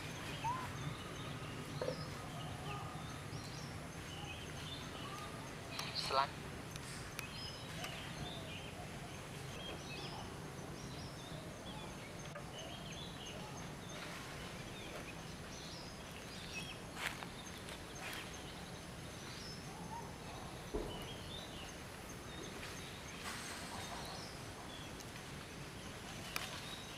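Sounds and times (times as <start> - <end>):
low background noise: 0.0 - 26.9.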